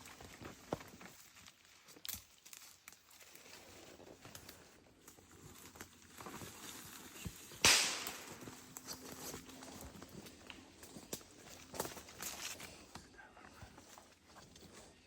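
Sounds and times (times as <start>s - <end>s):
rustling and crunching in dry leaves: 0.0s - 12.8s.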